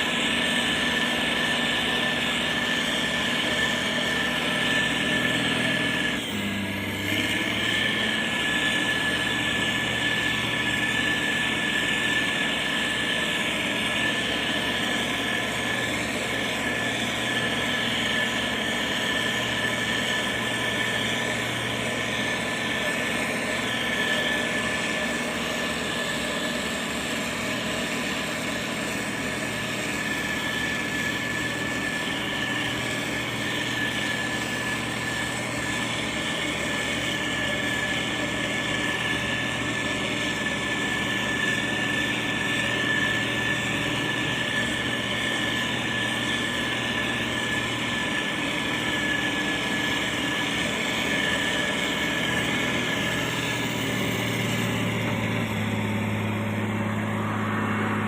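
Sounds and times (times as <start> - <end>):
diesel engine running: 0.0 - 58.0
high whine: 0.0 - 58.0.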